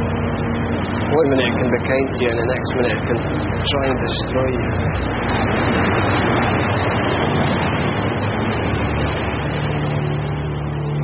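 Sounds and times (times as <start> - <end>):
boat engine droning: 0.0 - 11.0
rushing water: 0.0 - 11.0
wind: 0.0 - 11.0.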